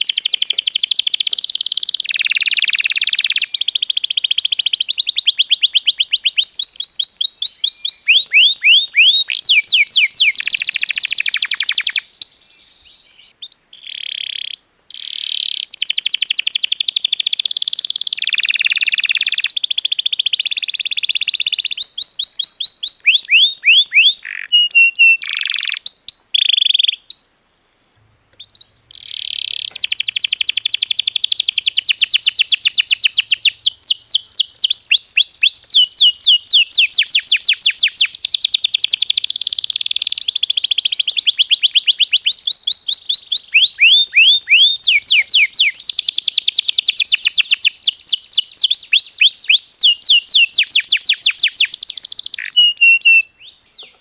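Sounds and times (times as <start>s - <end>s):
canary singing trills: 0.0s - 27.4s, 28.4s - 54.0s.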